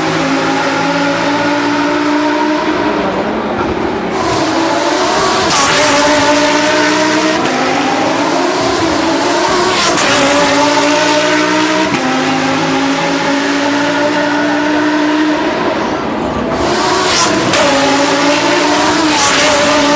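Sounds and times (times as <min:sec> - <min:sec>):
race car engines at high revs: 0:00.0 - 0:19.9.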